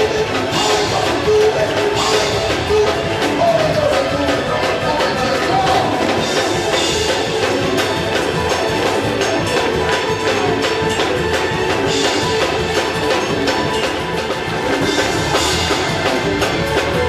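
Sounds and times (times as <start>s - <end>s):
church praise music: 0.0s - 17.0s
drum kit: 0.0s - 17.0s.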